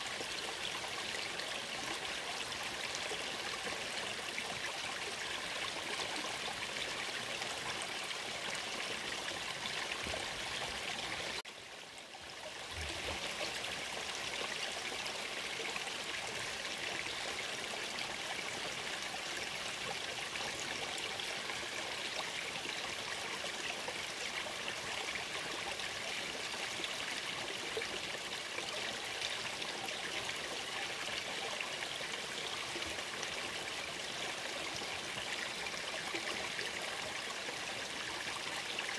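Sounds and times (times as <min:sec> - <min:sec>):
brook flowing over rocks: 0:00.0 - 0:38.9.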